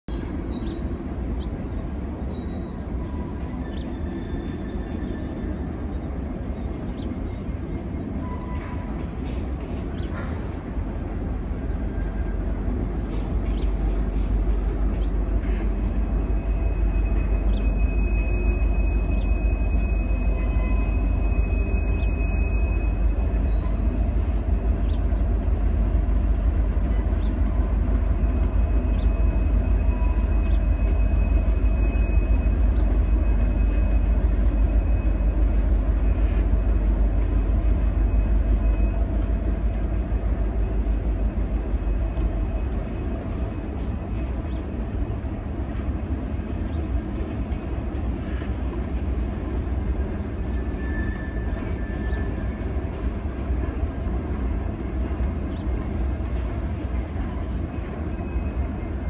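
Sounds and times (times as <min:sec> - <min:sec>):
deep locomotive engine rumble: 0:00.0 - 0:59.0.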